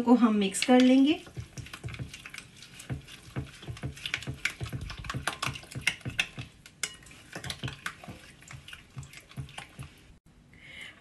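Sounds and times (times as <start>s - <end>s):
wet squishing of marinade: 0.2s - 10.2s.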